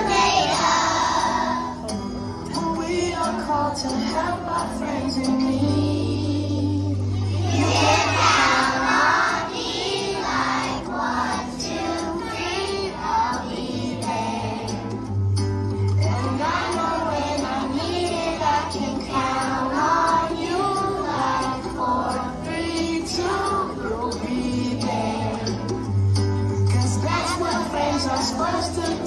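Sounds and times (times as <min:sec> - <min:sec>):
children's choir singing: 0:00.0 - 0:01.9, 0:02.5 - 0:15.1, 0:16.0 - 0:25.8, 0:26.7 - 0:29.0.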